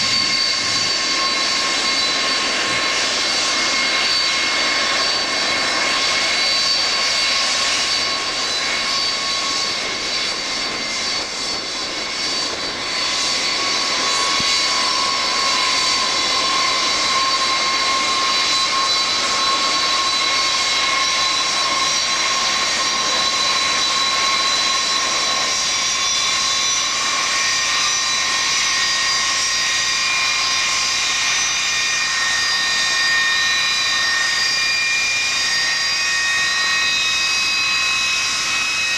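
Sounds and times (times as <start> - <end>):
jet engine rushing hiss: 0.0 - 38.9
jet engines whining: 0.0 - 38.9.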